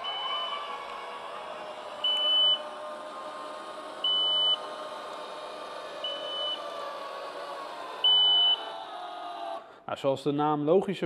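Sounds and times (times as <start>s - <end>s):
faint motor hum: 0.0s - 9.6s.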